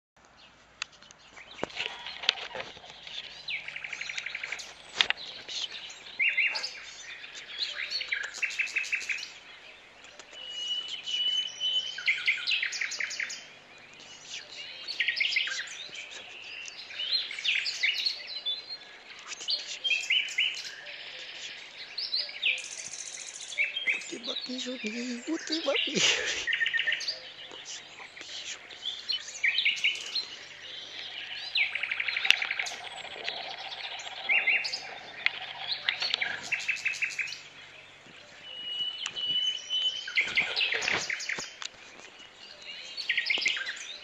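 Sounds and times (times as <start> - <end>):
birds chirping and chattering: 0.2 - 44.0.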